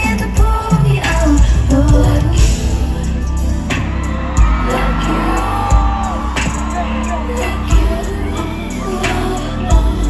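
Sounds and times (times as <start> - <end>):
heavy bass: 0.0 - 10.0
live pop music: 0.0 - 10.0
person singing: 0.0 - 10.0.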